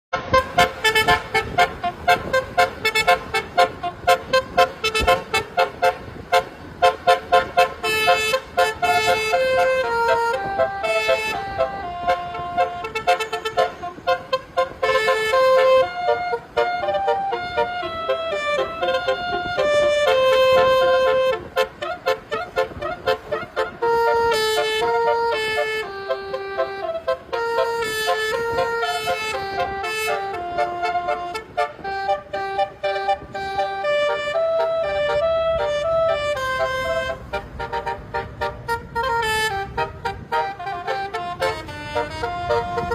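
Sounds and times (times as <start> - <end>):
bus musical horn melody: 0.1 - 42.9.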